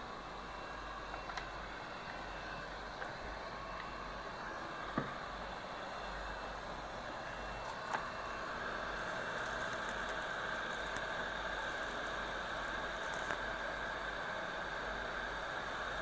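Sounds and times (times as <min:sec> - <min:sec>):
hot air station blowing: 0:00.0 - 0:16.0.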